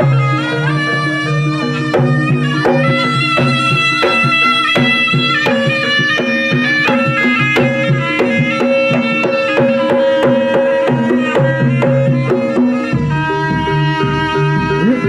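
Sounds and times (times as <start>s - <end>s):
hand-drum strokes: 0.0s - 15.0s
ringing pitched gamelan notes: 0.0s - 15.0s.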